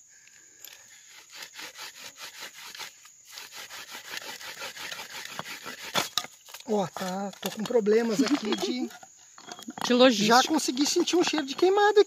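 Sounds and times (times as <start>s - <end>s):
bamboo rhythmic scraping: 0.6s - 12.0s.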